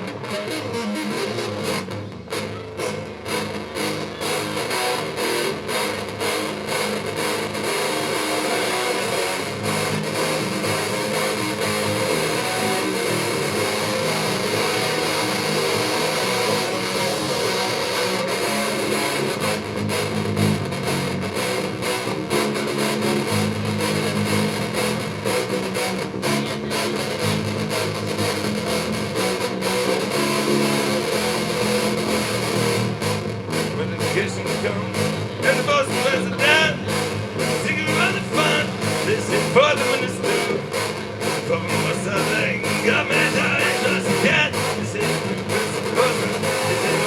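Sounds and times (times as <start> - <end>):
guitar playing chords: 0.0 - 47.0
live band instrumental music: 0.0 - 47.0.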